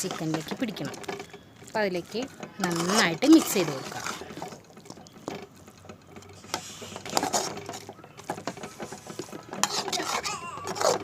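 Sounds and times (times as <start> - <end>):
spatula scraping a pan: 0.0 - 1.4, 2.0 - 4.9, 6.3 - 11.0.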